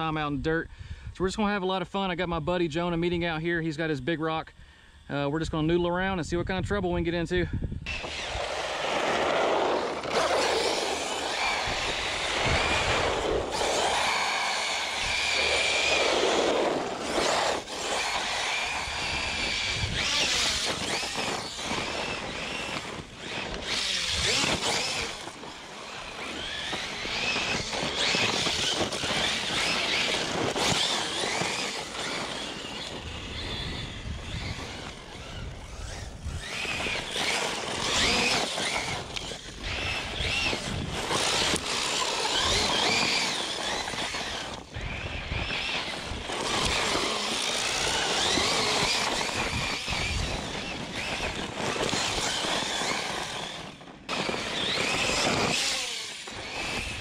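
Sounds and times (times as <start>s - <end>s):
electric motor whining: 7.8s - 57.0s
tyres rumbling on dirt: 7.9s - 57.0s.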